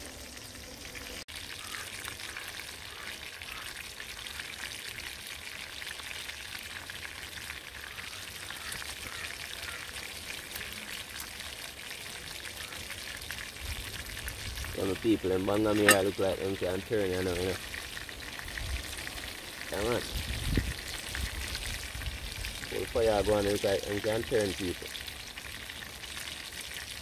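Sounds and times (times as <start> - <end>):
fish frying in hot oil: 0.0 - 27.0.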